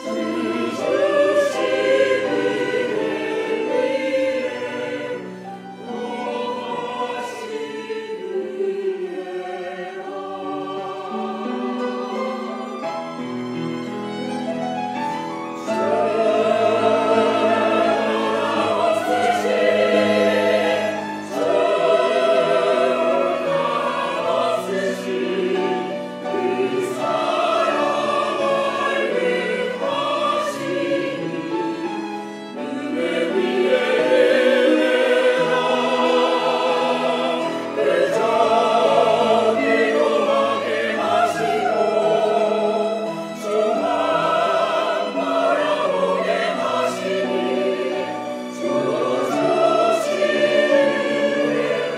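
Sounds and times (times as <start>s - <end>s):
choir singing with vibrato: 0.0s - 51.9s
violins playing: 0.0s - 51.9s.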